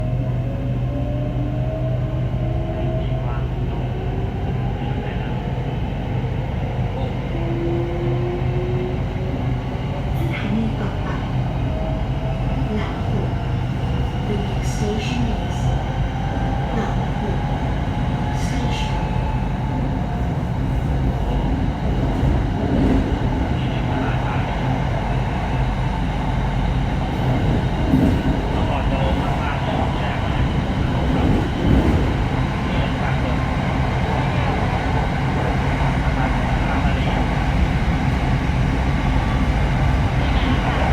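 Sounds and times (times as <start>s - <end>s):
electric train rumble: 0.0s - 40.9s.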